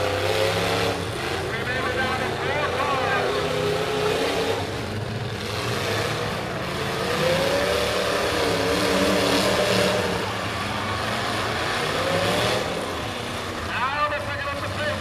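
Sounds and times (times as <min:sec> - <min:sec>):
car engine revving: 0:00.0 - 0:15.0
din of car engines: 0:00.0 - 0:15.0.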